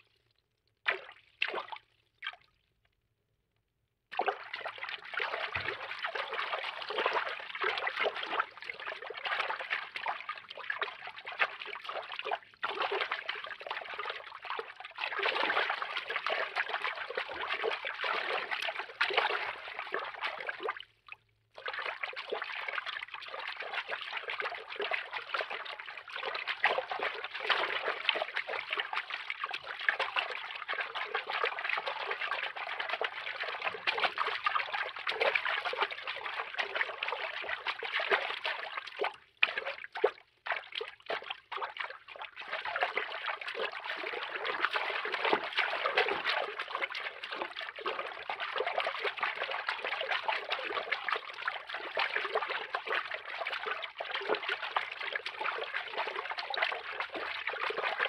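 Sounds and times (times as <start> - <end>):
underwater water-movement foley: 4.1 - 58.0.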